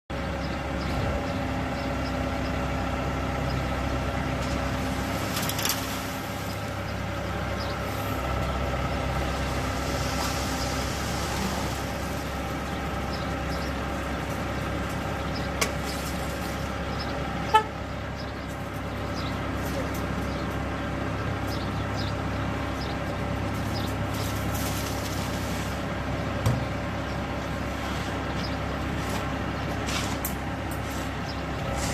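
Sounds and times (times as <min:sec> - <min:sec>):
truck engine running: 0:00.1 - 0:31.9.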